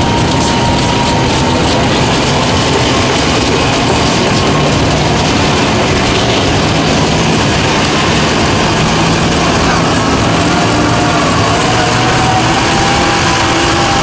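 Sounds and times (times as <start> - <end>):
tires churning through mud: 0.0 - 14.0
truck engine running loud: 0.0 - 14.0.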